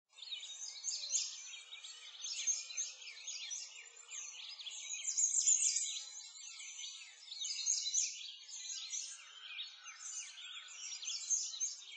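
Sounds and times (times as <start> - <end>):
songbirds chirping: 0.1 - 11.9.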